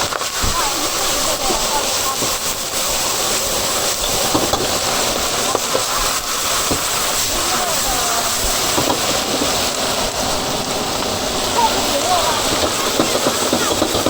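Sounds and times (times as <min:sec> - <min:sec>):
faint voices: 0:00.0 - 0:14.0
wok stir-frying hiss: 0:00.0 - 0:14.0.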